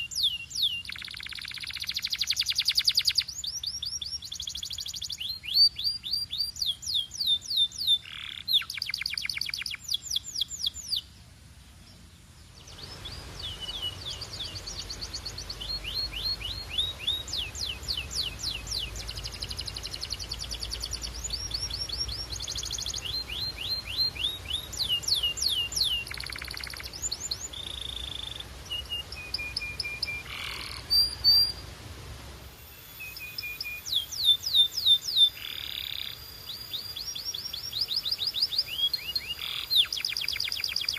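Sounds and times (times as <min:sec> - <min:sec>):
canary singing: 0:00.0 - 0:11.1, 0:12.6 - 0:31.6, 0:32.7 - 0:40.9.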